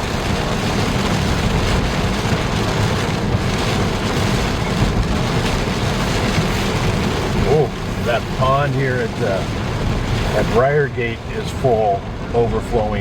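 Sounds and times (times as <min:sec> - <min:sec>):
tyre hiss on wet road: 0:00.0 - 0:12.0
engine and tyre rumble: 0:00.0 - 0:13.0.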